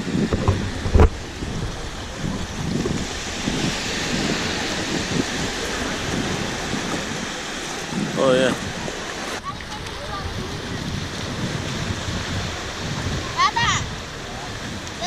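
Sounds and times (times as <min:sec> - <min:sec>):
surf hissing: 0:00.0 - 0:15.0
wind buffeting microphone: 0:00.0 - 0:15.0.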